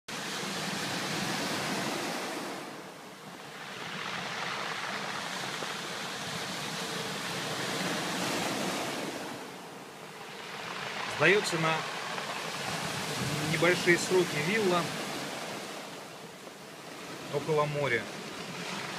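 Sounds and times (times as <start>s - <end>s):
waves washing up pebble beach: 0.1s - 18.9s.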